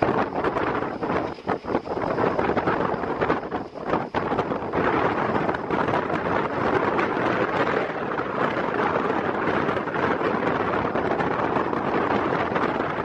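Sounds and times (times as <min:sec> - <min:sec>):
train wheels rumbling on rails: 0:00.0 - 0:13.0
wind rushing on microphone: 0:00.0 - 0:13.0.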